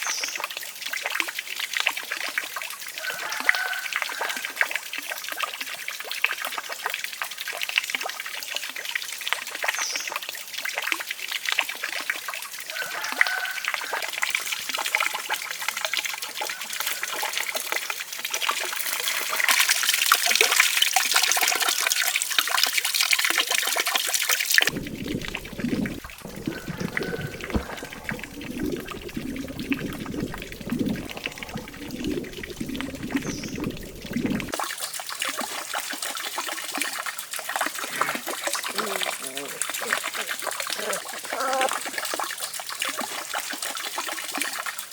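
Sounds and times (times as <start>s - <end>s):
low full water sound: 0.0s - 44.9s
water trickling and splashing: 0.0s - 44.9s.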